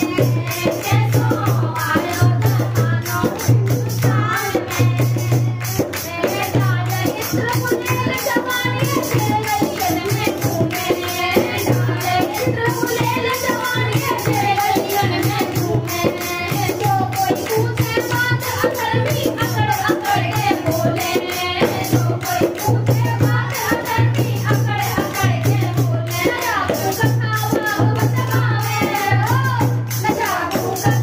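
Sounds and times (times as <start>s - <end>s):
hand claps and percussion: 0.0s - 31.0s
women singing devotional song: 0.0s - 31.0s.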